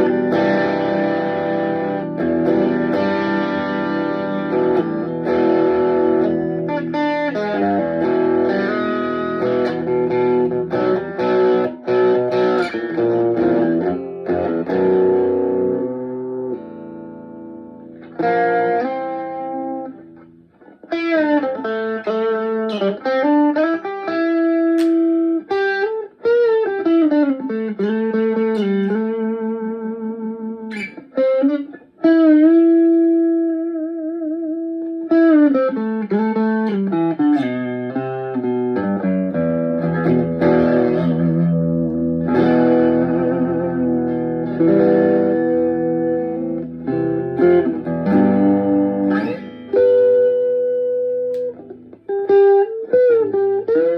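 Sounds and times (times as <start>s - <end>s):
electric guitar playing: 0.0s - 53.9s.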